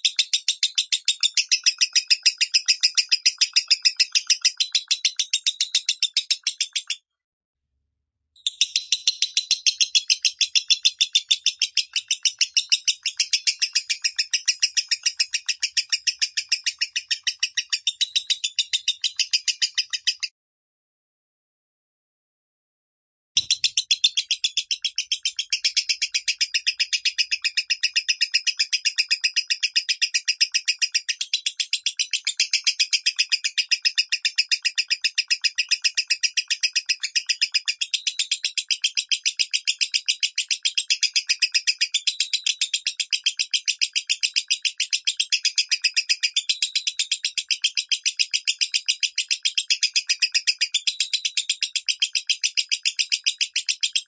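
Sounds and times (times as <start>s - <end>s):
lovebird chattering chirps: 0.0s - 7.0s, 8.4s - 20.3s, 23.4s - 54.0s.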